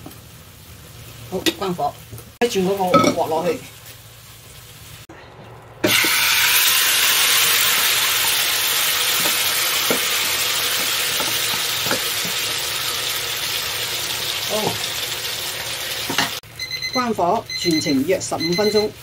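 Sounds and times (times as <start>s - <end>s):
food sizzling in hot pot: 0.0s - 5.1s, 5.8s - 19.0s.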